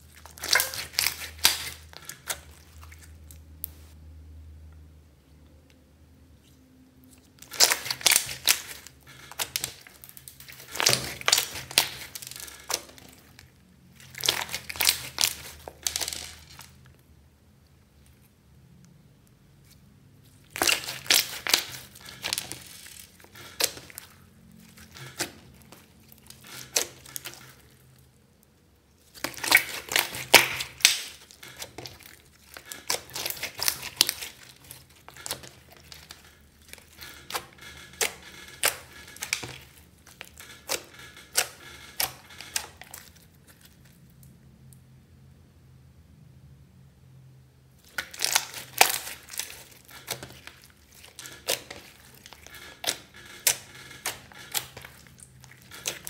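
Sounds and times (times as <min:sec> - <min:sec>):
slime squishing and crackling: 0:00.0 - 0:04.0, 0:07.0 - 0:17.0, 0:20.2 - 0:28.2, 0:28.9 - 0:44.4, 0:47.8 - 0:56.0.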